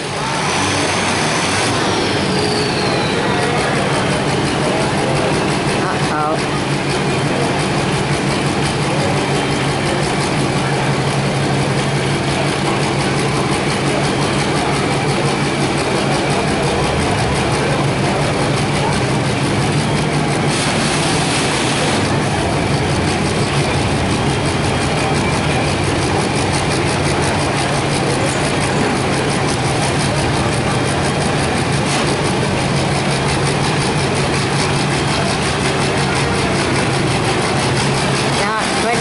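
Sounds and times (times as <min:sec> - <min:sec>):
tractor engine idling: 0:00.0 - 0:39.0.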